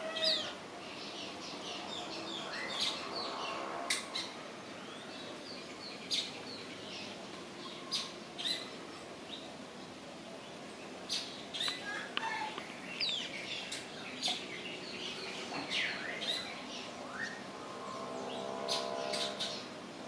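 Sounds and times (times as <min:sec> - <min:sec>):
birds chirping: 0:00.0 - 0:19.8.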